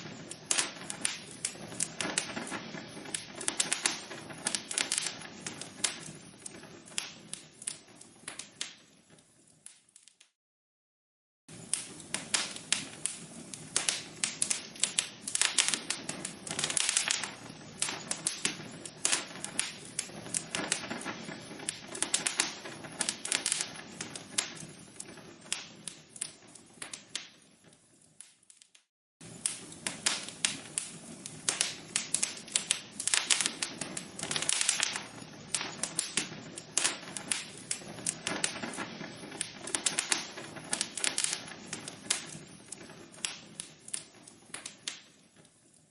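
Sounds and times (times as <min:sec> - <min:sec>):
logs crackling in fireplace: 0:00.0 - 0:10.4, 0:11.5 - 0:45.9.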